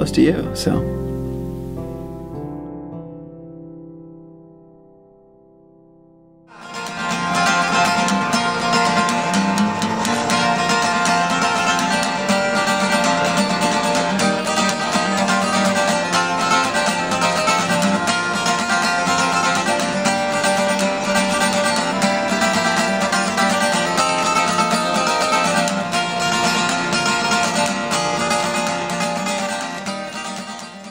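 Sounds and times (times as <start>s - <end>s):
acoustic guitar plucking: 0.0s - 30.9s.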